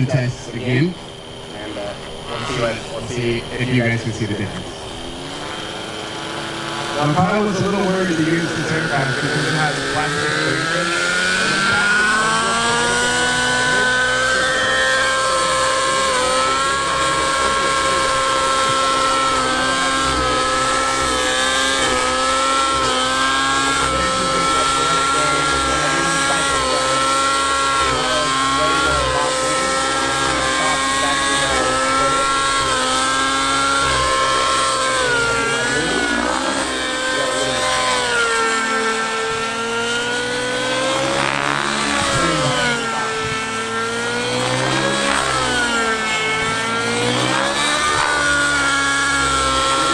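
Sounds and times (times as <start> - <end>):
rc helicopter engine whine: 0.0 - 49.9.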